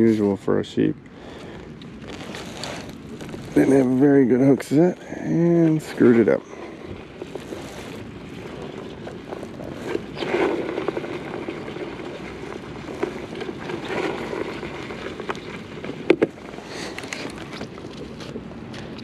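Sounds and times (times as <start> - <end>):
fishing tackle rustling and clicking: 1.5 - 19.0.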